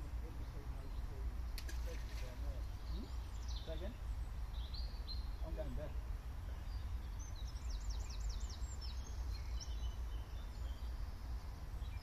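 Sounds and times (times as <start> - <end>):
songbird singing: 0.0 - 12.0
bird chirps: 0.3 - 12.0.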